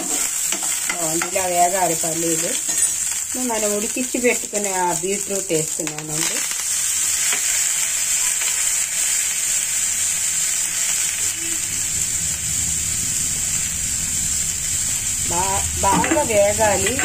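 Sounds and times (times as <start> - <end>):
hot oil sizzling in frying pan: 0.0 - 17.0.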